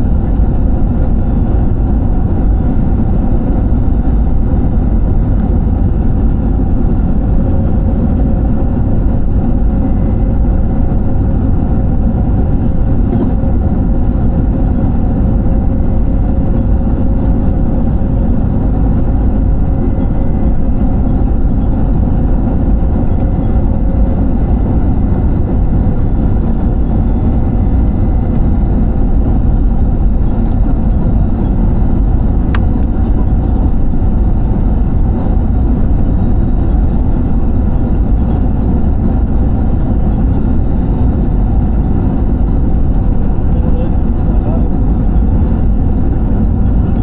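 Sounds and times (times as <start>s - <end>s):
airliner engine roar in cabin: 0.0s - 47.0s.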